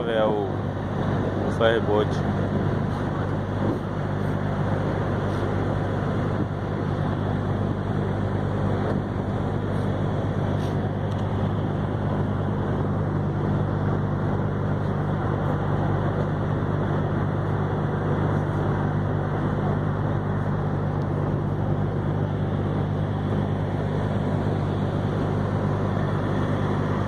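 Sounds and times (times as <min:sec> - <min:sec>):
ferry engines humming: 0:00.0 - 0:27.0
wind and water rushing: 0:00.0 - 0:27.0.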